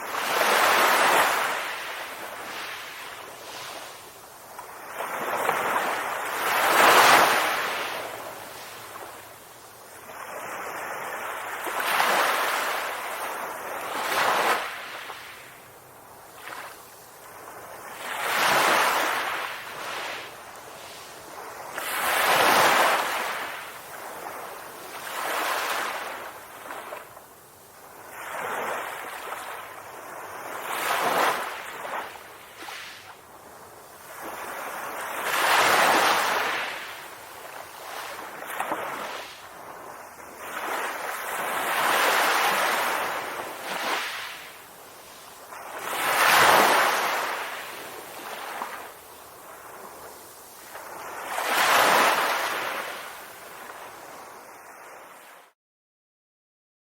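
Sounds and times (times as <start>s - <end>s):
waves washing in: 0.0s - 55.6s.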